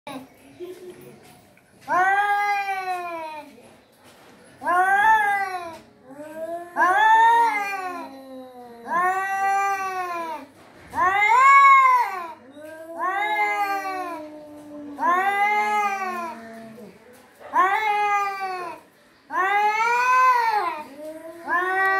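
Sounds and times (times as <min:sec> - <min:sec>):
cats yowling: 0:01.9 - 0:03.5, 0:04.6 - 0:21.9.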